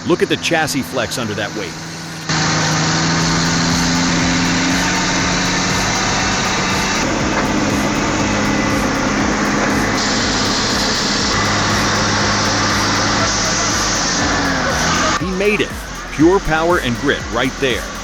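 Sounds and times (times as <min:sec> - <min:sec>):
truck engine under load: 0:00.0 - 0:18.0.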